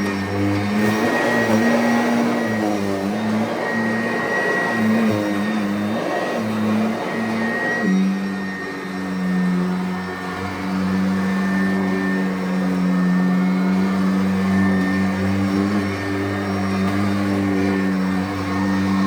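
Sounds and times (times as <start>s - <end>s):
upright vacuum motor drone: 0.0s - 19.0s.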